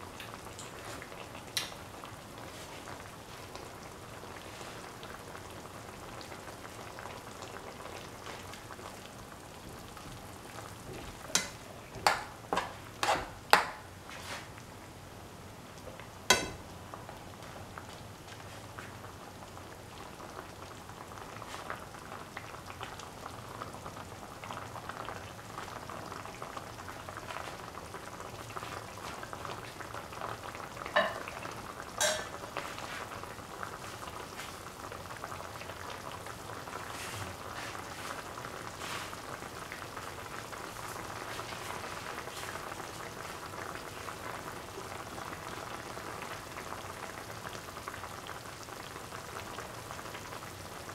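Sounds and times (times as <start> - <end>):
curry boiling and bubbling: 0.0 - 50.9.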